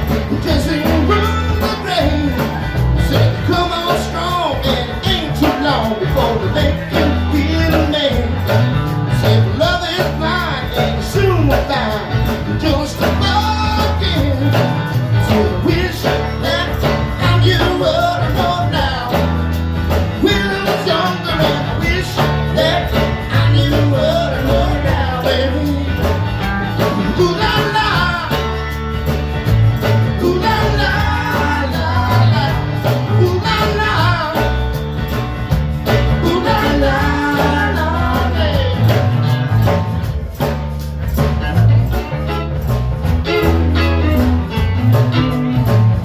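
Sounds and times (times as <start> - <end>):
band music with singing: 0.0 - 46.0.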